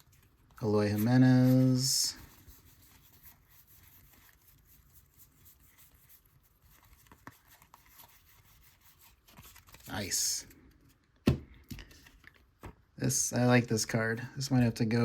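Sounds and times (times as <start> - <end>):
trading cards rustling: 0.0 - 12.9.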